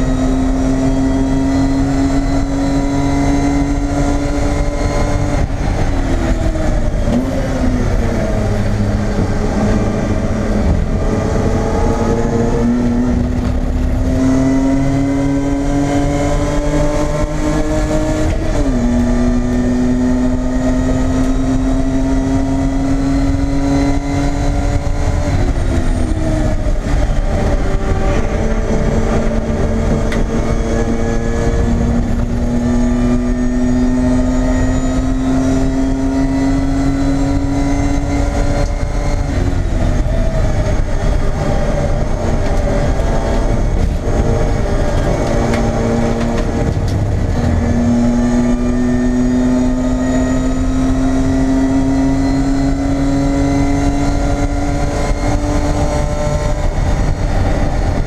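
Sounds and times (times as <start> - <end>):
race car engine revving: 0.0 - 58.0
road and wind noise: 0.0 - 58.0.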